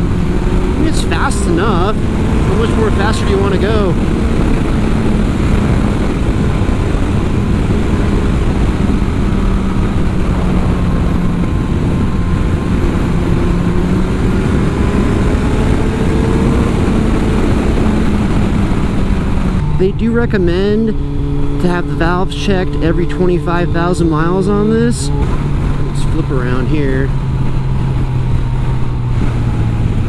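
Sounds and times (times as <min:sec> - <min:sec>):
motorcycle engine cruising: 0:00.0 - 0:30.0
wind rush: 0:00.0 - 0:30.0.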